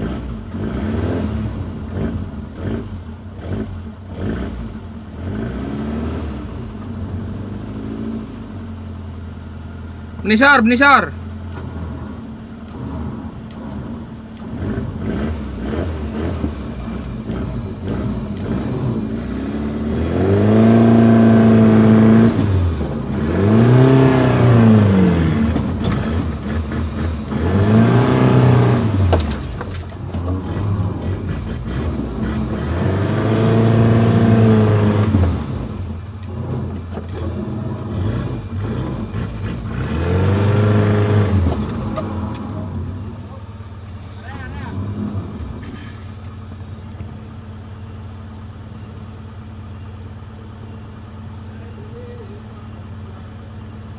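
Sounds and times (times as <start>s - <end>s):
car engine revving: 0.0s - 48.5s.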